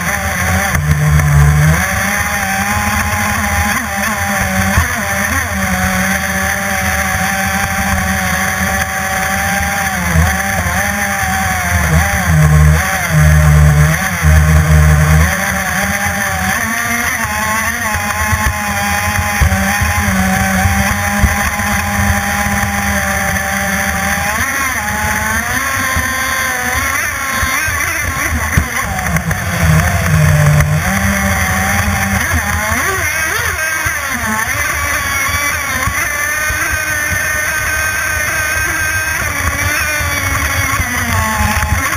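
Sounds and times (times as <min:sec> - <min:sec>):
model boat engine whining: 0:00.0 - 0:41.9.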